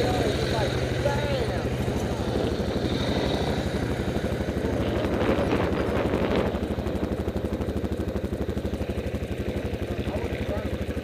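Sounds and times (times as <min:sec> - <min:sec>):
atv engine idling: 0:00.0 - 0:11.0
rough bright engine noise: 0:00.0 - 0:11.0.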